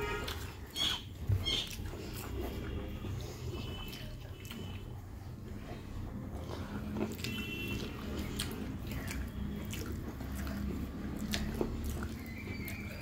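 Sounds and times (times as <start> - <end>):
person chewing food: 0.0 - 13.0
wet squishing of food by fingers: 0.0 - 13.0.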